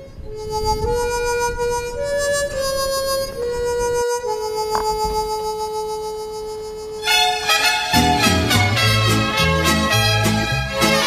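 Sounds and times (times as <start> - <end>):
slow melody of held notes: 0.0 - 10.0.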